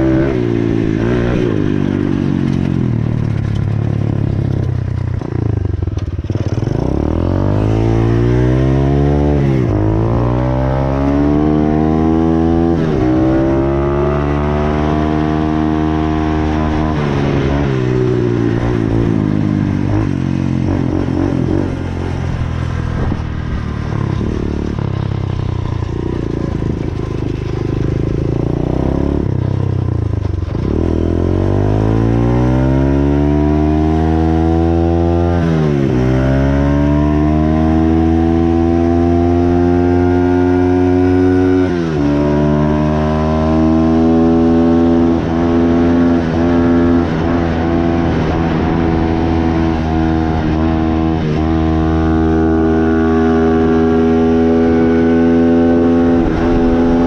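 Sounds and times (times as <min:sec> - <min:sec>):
dirt bike engine accelerating: 0:00.0 - 0:57.0.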